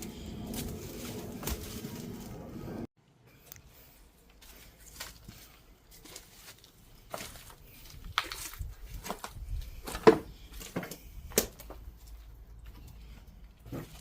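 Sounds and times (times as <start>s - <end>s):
footsteps crunching on debris: 0.0s - 2.9s, 4.3s - 14.0s.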